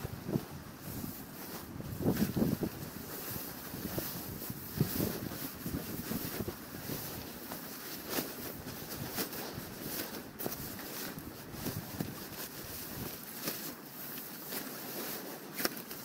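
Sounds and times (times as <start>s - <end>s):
wind on microphone: 0.0s - 13.2s
bivvy bag rustling and crinkling: 0.0s - 16.0s.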